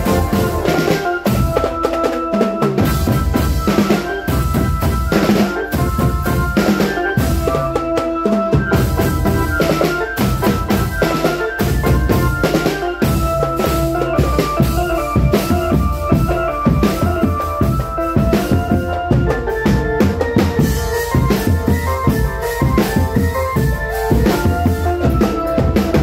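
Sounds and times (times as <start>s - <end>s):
melody of held tones: 0.0s - 26.0s
snare and bass drums: 0.0s - 26.0s.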